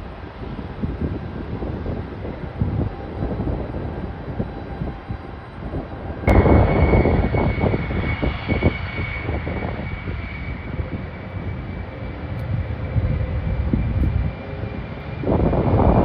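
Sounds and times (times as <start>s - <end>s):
airliner engine rumble and whine: 0.0s - 16.0s.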